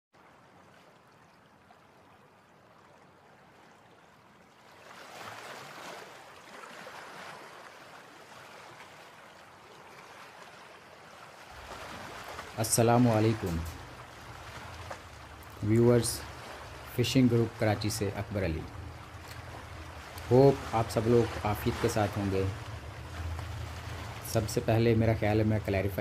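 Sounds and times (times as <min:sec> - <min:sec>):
sea water washing and splashing: 0:00.2 - 0:26.0.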